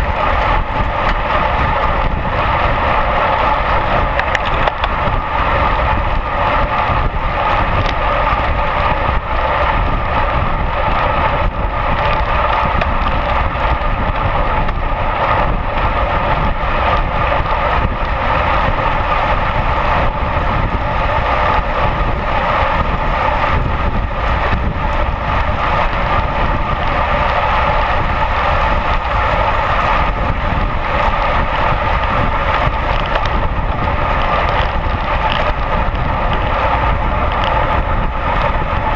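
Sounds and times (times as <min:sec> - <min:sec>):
bicycle tyre and road noise: 0:00.0 - 0:38.9
wind rushing over microphone: 0:00.0 - 0:38.9.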